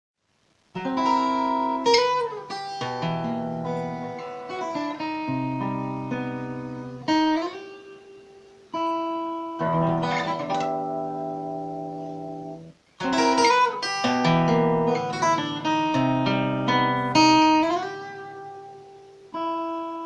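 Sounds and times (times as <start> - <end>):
solo acoustic guitar: 0.7 - 20.0.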